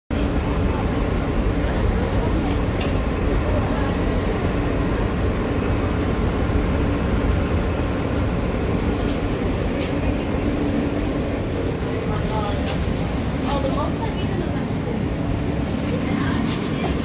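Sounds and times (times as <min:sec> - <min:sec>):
subway car hum and rush: 0:00.1 - 0:17.0.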